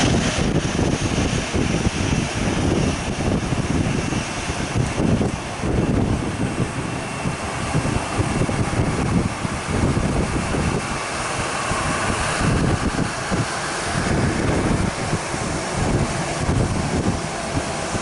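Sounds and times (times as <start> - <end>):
jet engines running: 0.0 - 18.0
wind rumble on microphone: 0.0 - 18.0.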